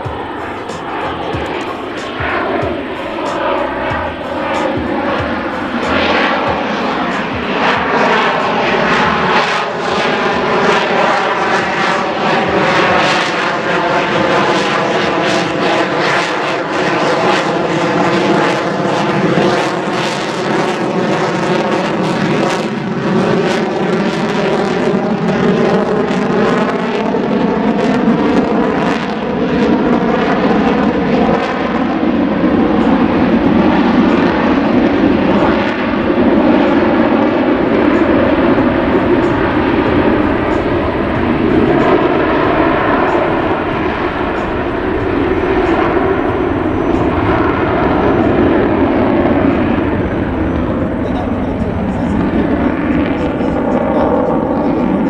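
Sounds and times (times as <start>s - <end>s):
fighter jet roar: 0.0s - 55.0s.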